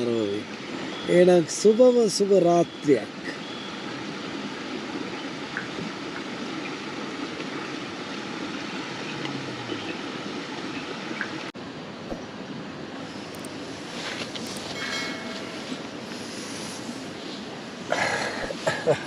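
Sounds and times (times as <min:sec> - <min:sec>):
waterfall rushing: 0:00.0 - 0:11.6, 0:12.4 - 0:19.0.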